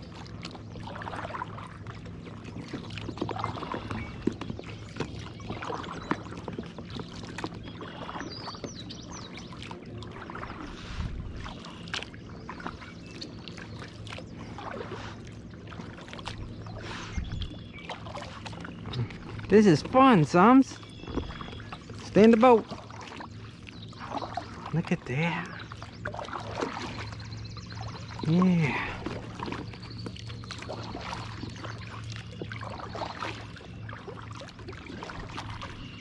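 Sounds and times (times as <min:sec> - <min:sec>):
paddle splashing in water: 0:00.0 - 0:36.0.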